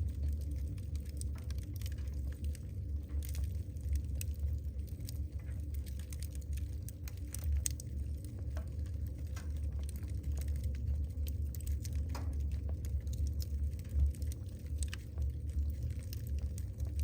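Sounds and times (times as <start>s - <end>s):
logs crackling and popping: 0.0s - 17.0s
low fire rumble: 0.0s - 17.0s.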